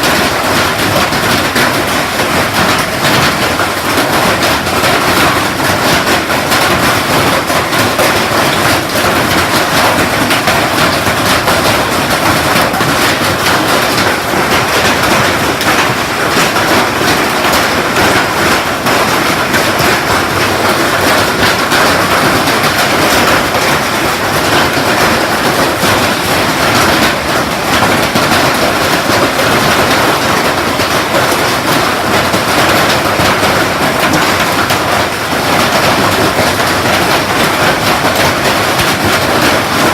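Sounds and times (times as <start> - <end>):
hailstones clattering: 0.0 - 39.9.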